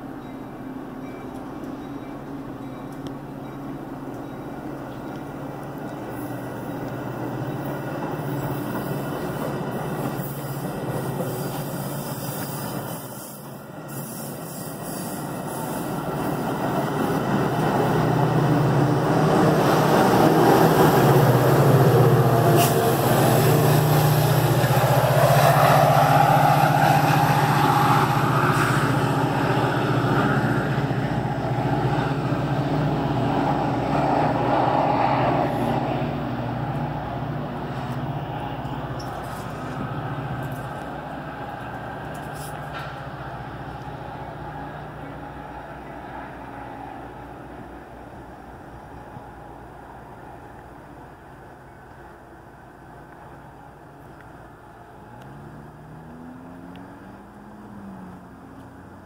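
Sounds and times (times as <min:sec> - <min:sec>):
train coaches rumbling on rails: 0:00.0 - 0:56.4
diesel locomotive drone: 0:00.0 - 0:59.0.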